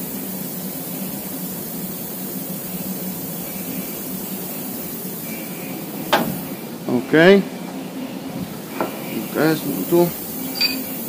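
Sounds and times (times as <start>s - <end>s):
faint high whine: 0.0s - 11.0s
milling machine hum and hiss: 0.0s - 11.0s.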